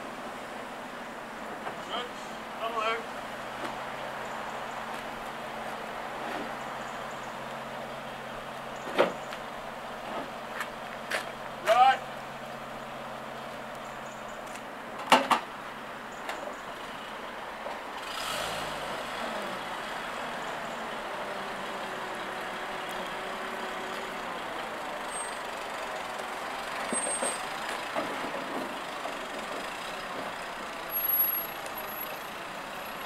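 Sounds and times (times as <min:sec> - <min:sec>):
truck engine under load: 0:00.0 - 0:33.0.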